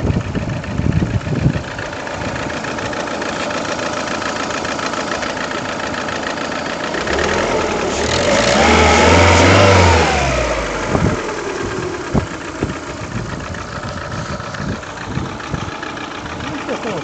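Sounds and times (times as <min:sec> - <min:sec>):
car engine idling with knocking: 0:00.0 - 0:17.0
engine revving: 0:01.9 - 0:17.0.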